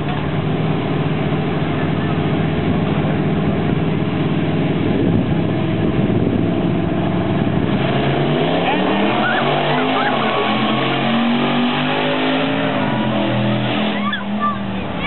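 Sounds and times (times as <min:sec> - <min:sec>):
truck engines idling: 0:00.0 - 0:15.0.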